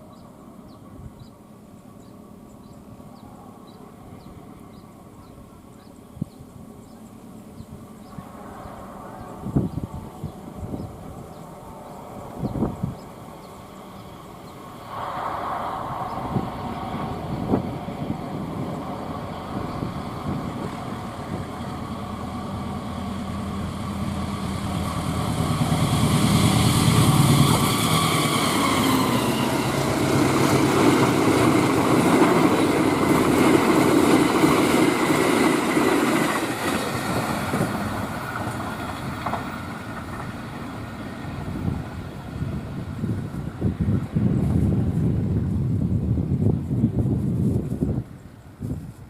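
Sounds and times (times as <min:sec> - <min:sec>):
diesel locomotive engine passing: 0:00.0 - 0:49.0
train wheels rumbling on rails: 0:00.0 - 0:49.0.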